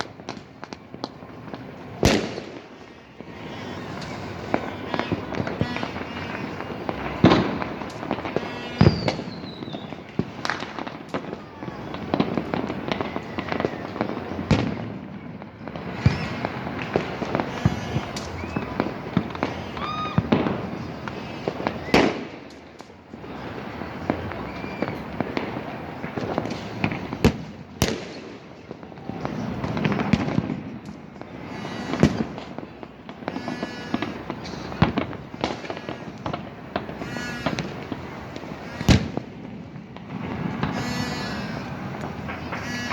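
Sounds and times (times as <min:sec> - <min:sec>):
fireworks bangs and crackling: 0:00.0 - 0:42.9
whistling fireworks: 0:00.0 - 0:42.9.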